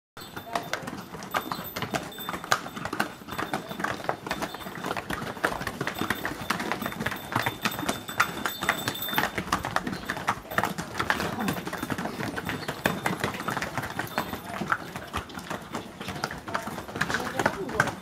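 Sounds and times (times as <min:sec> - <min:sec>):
hooves clip-clopping on stone: 0:00.2 - 0:18.0.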